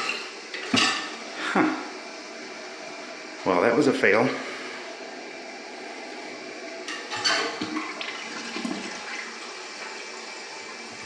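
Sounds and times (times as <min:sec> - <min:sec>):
toilet water running and gurgling: 0:00.0 - 0:11.0.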